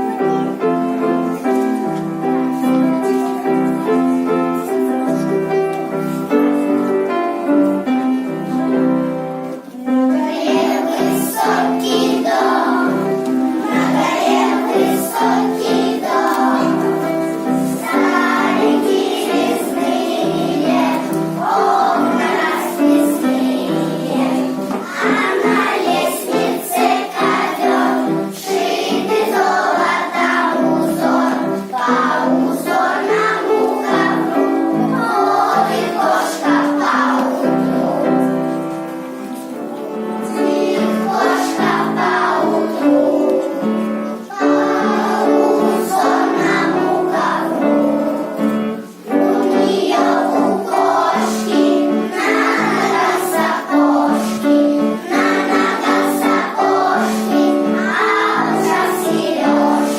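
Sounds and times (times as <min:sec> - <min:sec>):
musical accompaniment: 0:00.0 - 0:59.9
children singing in chorus: 0:09.8 - 0:59.9.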